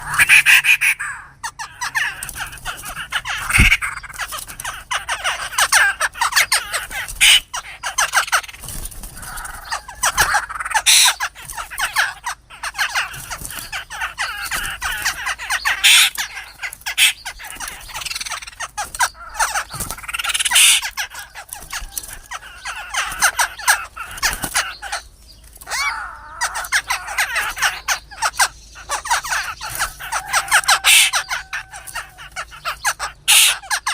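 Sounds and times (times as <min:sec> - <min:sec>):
birds squawking and chattering: 0:00.0 - 0:33.9.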